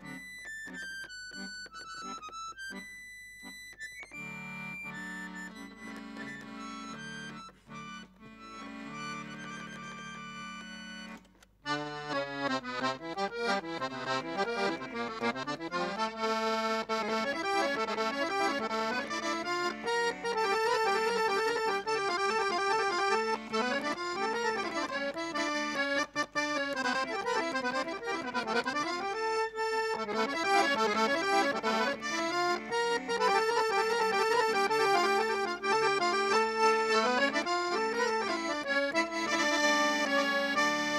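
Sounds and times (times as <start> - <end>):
accordion melody: 0.0 - 40.9.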